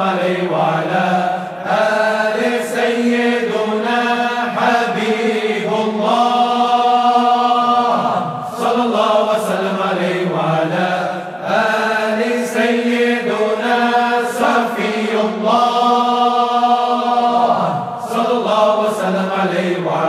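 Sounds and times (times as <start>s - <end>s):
voices chanting melodically: 0.0s - 20.0s.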